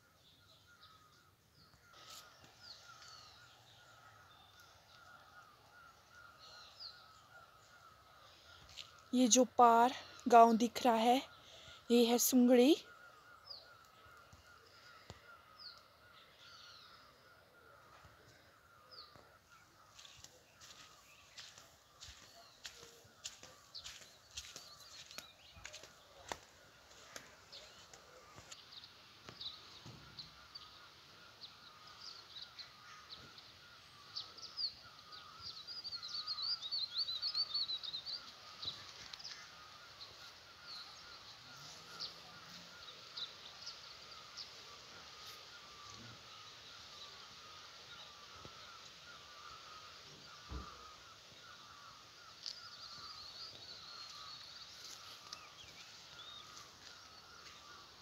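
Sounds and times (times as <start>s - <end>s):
bird twittering song: 0.0s - 58.0s
distant bird chorus: 0.0s - 58.0s.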